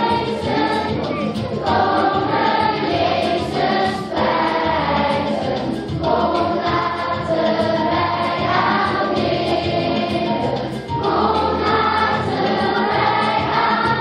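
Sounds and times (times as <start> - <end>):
children singing: 0.0 - 14.0
instrumental accompaniment: 0.0 - 14.0.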